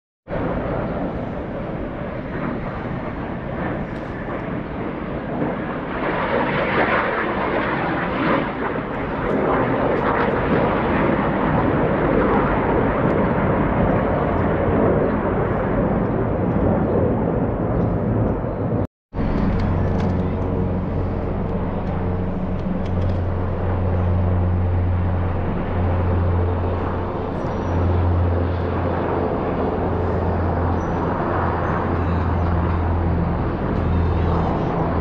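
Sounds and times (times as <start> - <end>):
aircraft engines droning: 0.3 - 35.0.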